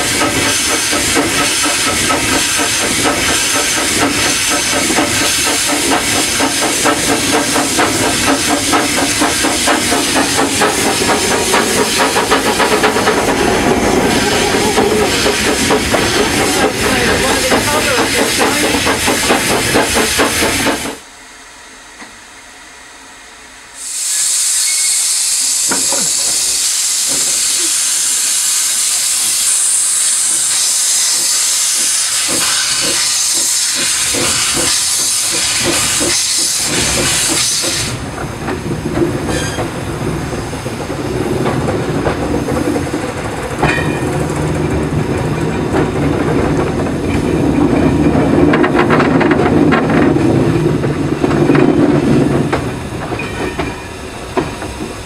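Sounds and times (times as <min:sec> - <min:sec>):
regular locomotive beats: 0:00.0 - 0:21.1, 0:24.7 - 0:55.0
steam locomotive hissing: 0:00.0 - 0:22.2, 0:23.6 - 0:55.0.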